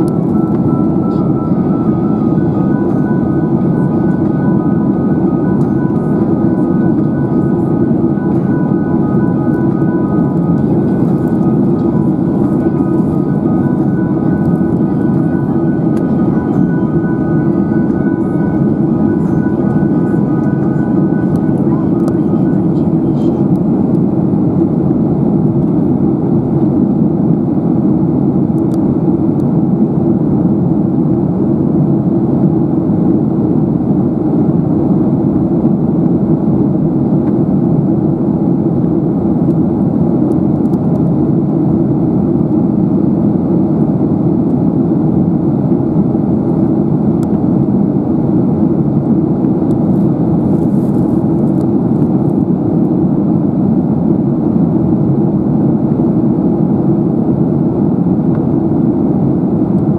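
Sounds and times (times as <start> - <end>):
airliner cabin roar: 0.0 - 59.9.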